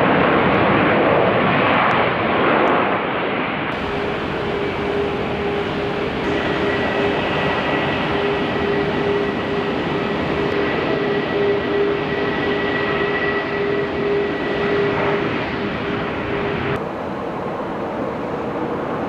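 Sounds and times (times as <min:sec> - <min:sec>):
aircraft engines running: 0:00.0 - 0:19.0
high engine whine: 0:03.7 - 0:19.0.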